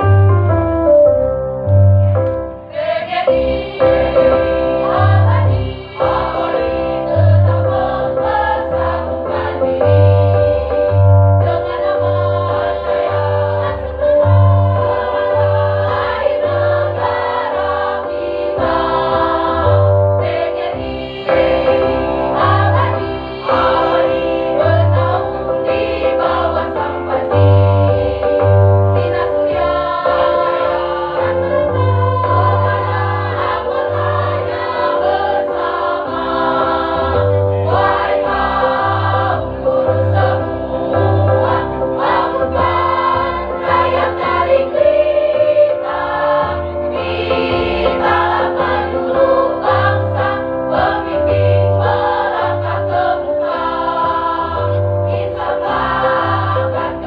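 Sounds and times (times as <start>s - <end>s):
keyboard accompaniment: 0.0s - 57.0s
choir singing a march: 2.7s - 57.0s.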